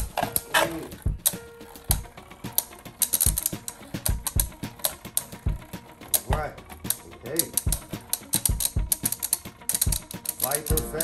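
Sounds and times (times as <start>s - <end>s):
spinning tops clacking: 0.0s - 11.0s.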